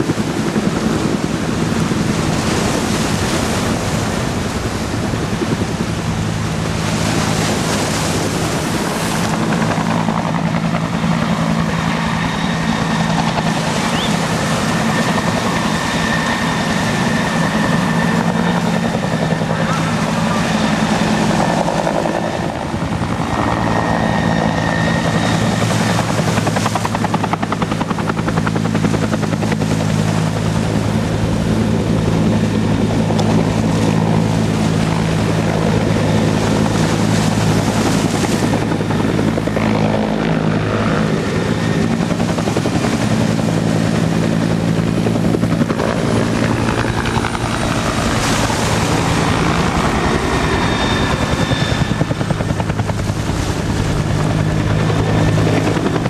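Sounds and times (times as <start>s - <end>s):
helicopter rotor drone: 0.0s - 56.0s
helicopter turbine whine: 0.0s - 56.0s.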